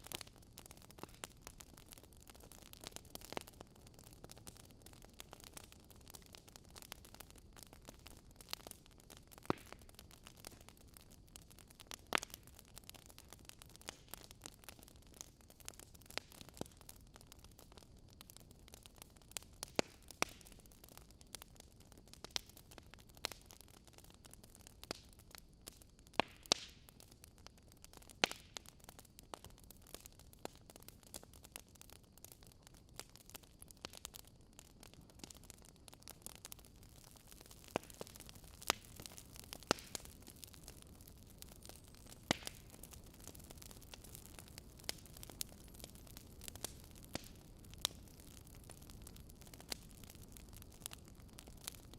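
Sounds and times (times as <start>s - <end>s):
faint steady hiss: 0.0s - 51.9s
fire crackling: 0.0s - 51.9s.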